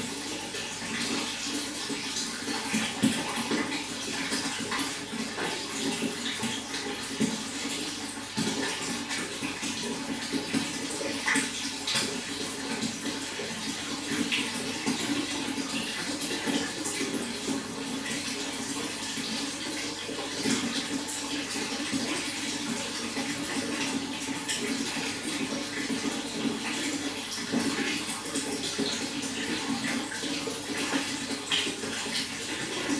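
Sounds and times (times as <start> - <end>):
running water flowing: 0.0 - 32.9.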